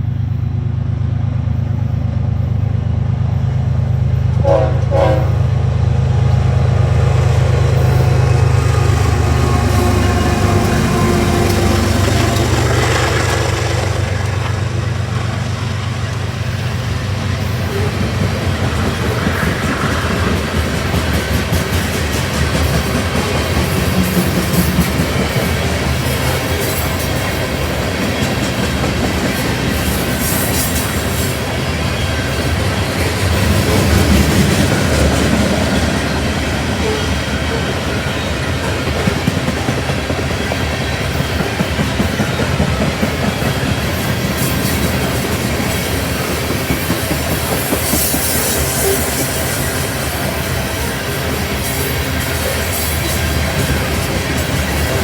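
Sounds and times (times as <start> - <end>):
train low rumble: 0.0 - 55.0
train wheels clacking on rails: 1.6 - 55.0.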